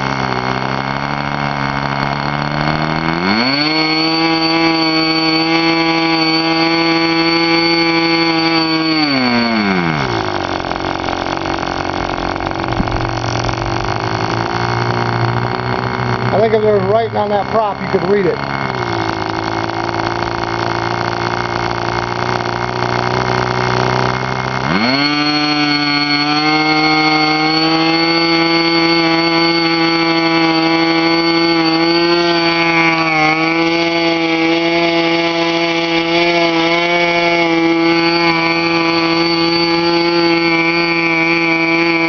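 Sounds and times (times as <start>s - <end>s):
model airplane engine revving: 0.0s - 42.0s.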